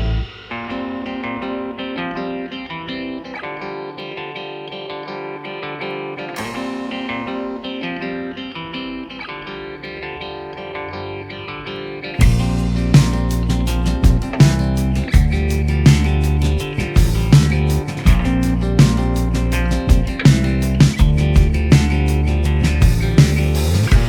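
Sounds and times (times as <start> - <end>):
plucked guitar music: 0.0 - 24.0.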